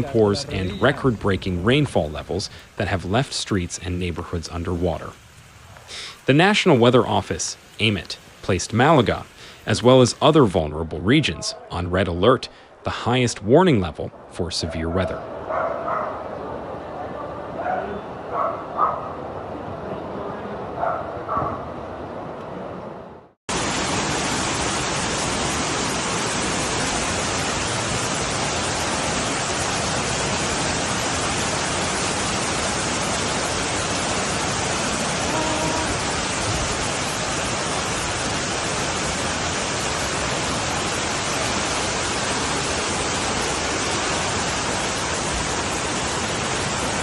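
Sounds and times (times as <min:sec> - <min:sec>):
floodwater rushing: 0:00.0 - 0:18.9, 0:23.5 - 0:47.0.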